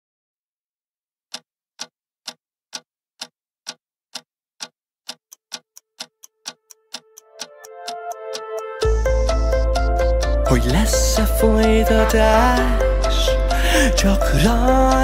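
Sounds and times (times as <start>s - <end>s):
clock ticking: 1.3s - 15.0s.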